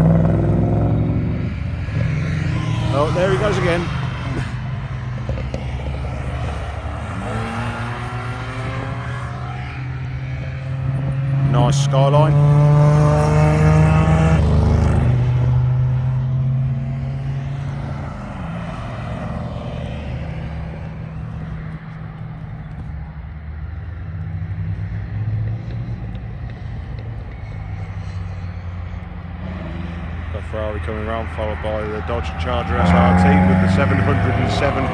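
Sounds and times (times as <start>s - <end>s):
race car engines: 0.0s - 34.9s.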